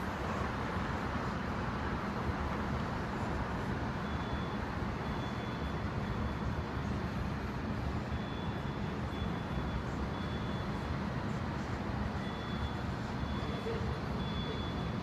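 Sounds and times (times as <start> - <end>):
city traffic din: 0.0 - 15.0.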